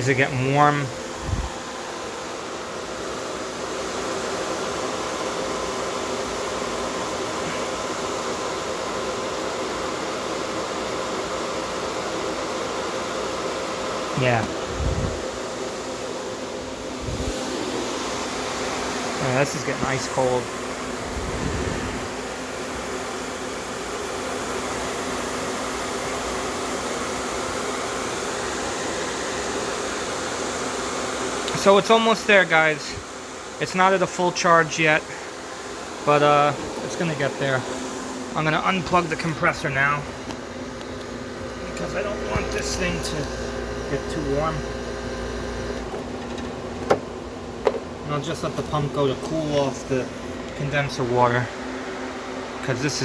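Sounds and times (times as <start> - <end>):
air conditioner whirring: 0.0 - 53.0.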